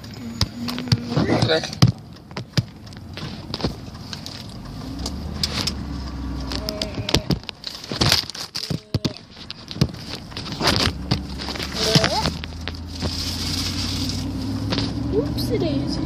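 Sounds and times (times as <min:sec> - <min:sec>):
car rumble from inside: 0:00.0 - 0:16.0.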